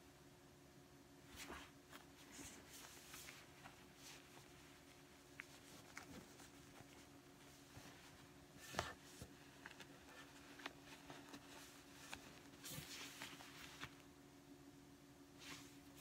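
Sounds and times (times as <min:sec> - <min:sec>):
low steady hum: 0:00.0 - 0:16.0
fabric rustling: 0:01.2 - 0:14.1.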